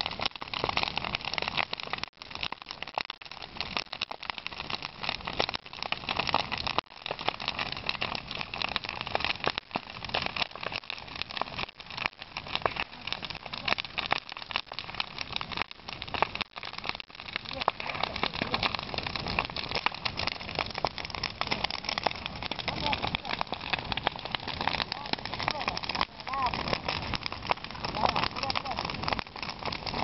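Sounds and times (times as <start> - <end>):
rush of flame: 0.0 - 30.0
wood crackling and popping: 0.0 - 30.0.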